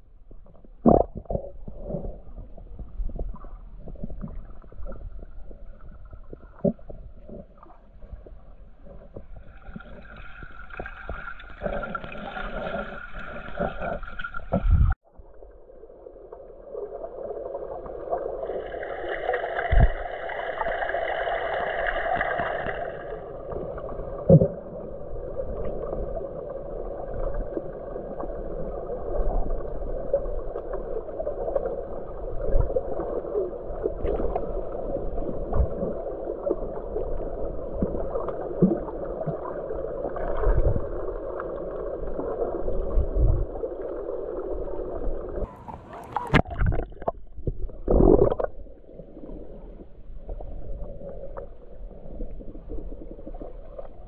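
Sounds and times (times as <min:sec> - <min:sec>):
muffled underwater water rush: 0:00.0 - 0:54.0.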